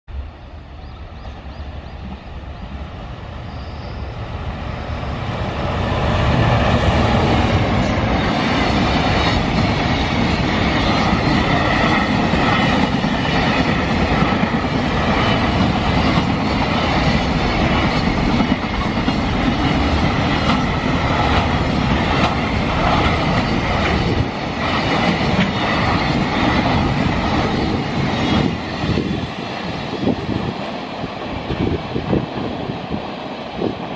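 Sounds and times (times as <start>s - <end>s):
train locomotive approaching: 0.1s - 33.9s
train wheels clickety-clack on rails: 1.2s - 33.9s.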